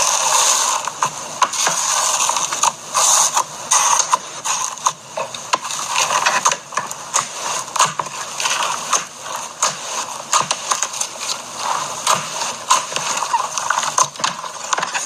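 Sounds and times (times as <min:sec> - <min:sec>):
crunchy slime crackling: 0:00.0 - 0:15.0.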